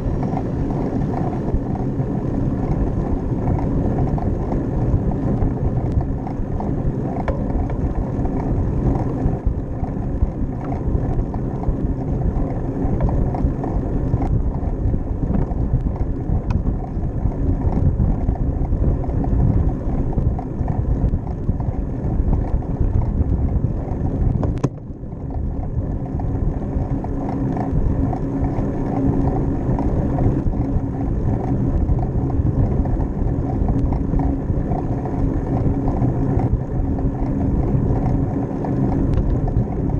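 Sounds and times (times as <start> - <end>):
bicycle rumbling on pavement: 0.0 - 39.9
wind buffeting microphone: 0.0 - 39.9.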